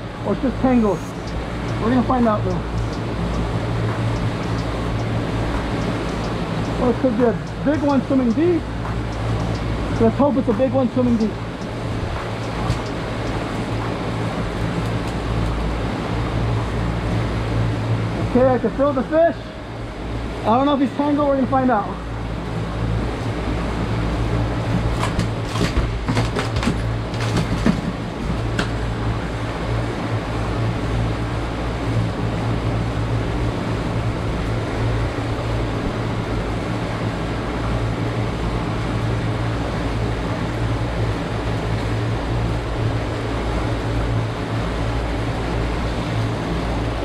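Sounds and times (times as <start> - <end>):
outboard motors droning: 0.0 - 47.0
wind: 0.0 - 47.0.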